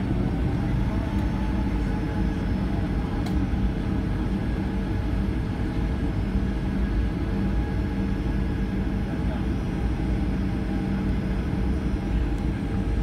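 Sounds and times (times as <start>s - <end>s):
airplane cabin engine rumble: 0.0s - 13.0s
steady hum: 0.0s - 13.0s.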